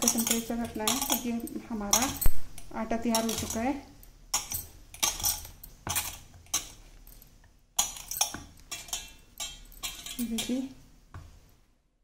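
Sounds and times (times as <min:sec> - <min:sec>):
bangles clinking: 0:00.0 - 0:10.8.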